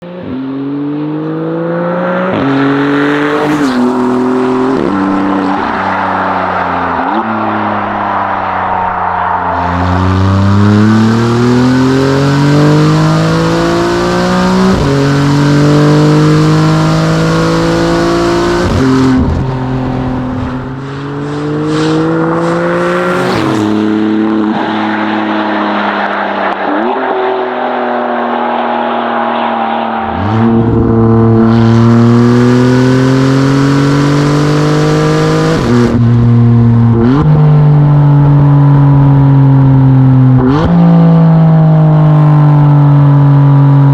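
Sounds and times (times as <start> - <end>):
sports car accelerating through gears: 0.0 - 43.9.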